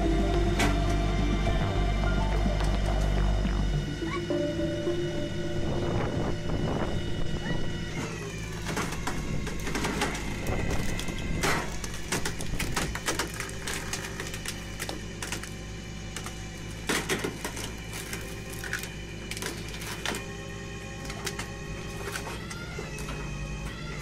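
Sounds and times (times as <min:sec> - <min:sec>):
steady hum: 0:00.0 - 0:22.2
machinery clattering: 0:00.0 - 0:23.8.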